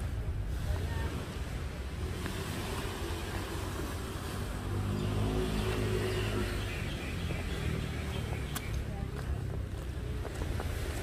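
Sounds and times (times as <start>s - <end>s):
outdoor noise rushing: 0.0s - 11.0s.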